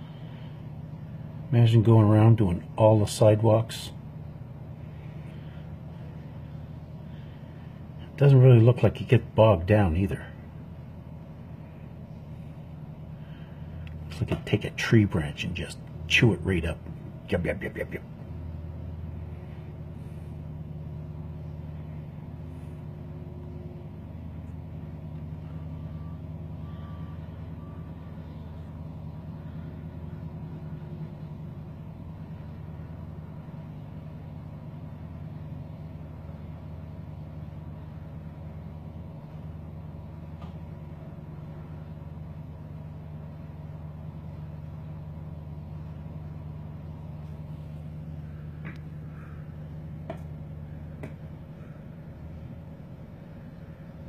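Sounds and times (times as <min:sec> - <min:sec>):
snowblower tractor engine drone: 0:00.0 - 0:54.0.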